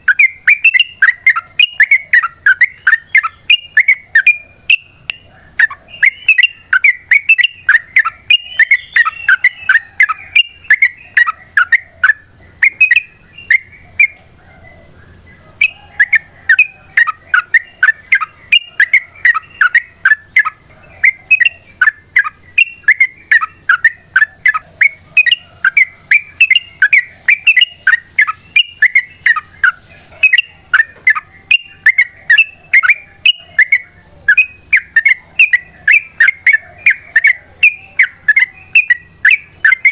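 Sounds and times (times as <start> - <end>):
bird song chattering: 0.0 - 39.9
faint high-pitched whine: 0.0 - 39.9.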